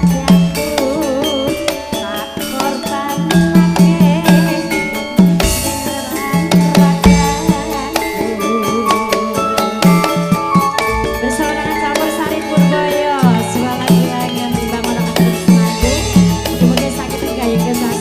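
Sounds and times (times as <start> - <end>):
band with hand drums: 0.0 - 18.0
woman singing: 0.0 - 18.0.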